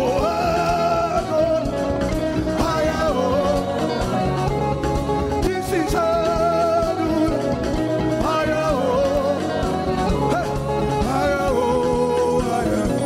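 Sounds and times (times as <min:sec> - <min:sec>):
backing singers: 0:00.0 - 0:13.0
band with drums: 0:00.0 - 0:13.0.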